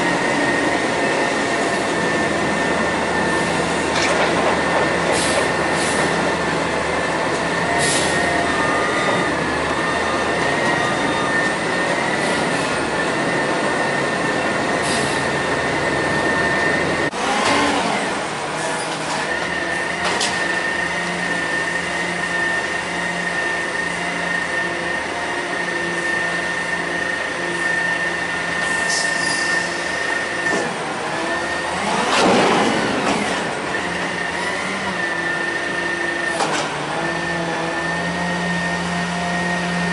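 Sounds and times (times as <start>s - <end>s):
garbage truck hydraulic hum: 0.0s - 6.5s, 7.1s - 39.9s.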